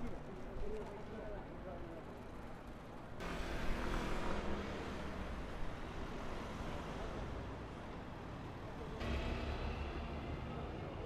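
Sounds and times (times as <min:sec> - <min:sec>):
road traffic: 0:01.1 - 0:11.0.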